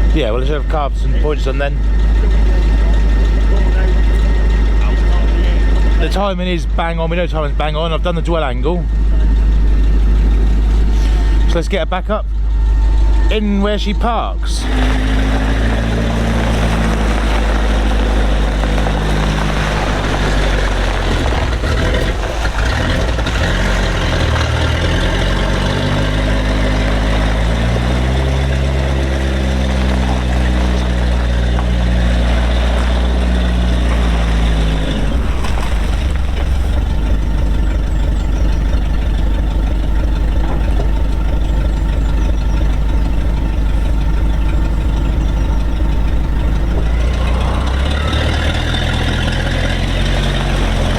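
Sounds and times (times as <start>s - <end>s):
vehicle engine revving and idling: 0.0s - 50.9s.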